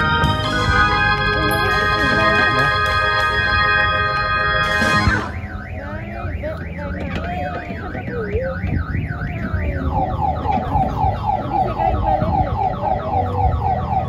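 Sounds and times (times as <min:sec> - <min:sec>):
warbling electronic siren alarm: 0:00.0 - 0:14.0.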